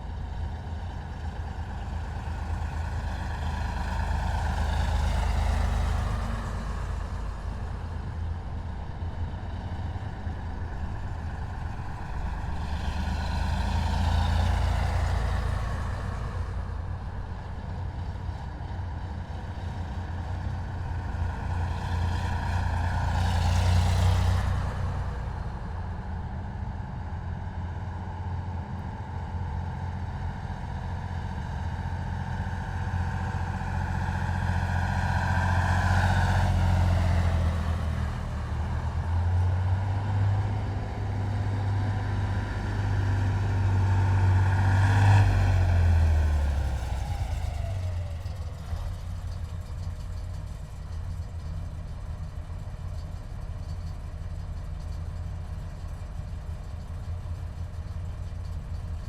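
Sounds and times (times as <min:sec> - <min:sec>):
diesel engines rumbling: 0:00.0 - 0:59.0.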